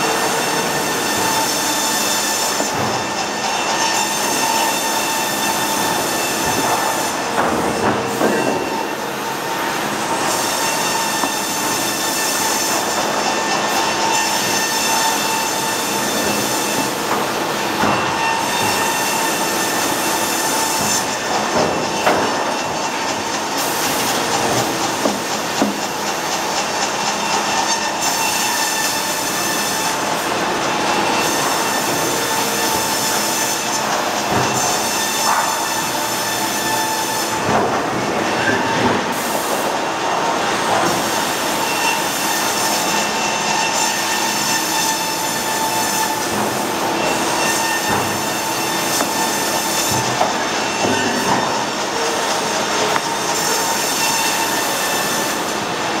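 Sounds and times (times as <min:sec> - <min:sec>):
band saw sawing a log: 0:00.0 - 0:56.0.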